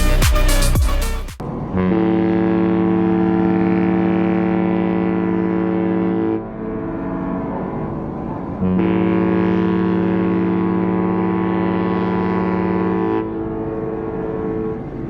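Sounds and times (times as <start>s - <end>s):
ship's horn blast: 1.6s - 15.0s
faint horn tone: 1.7s - 15.0s.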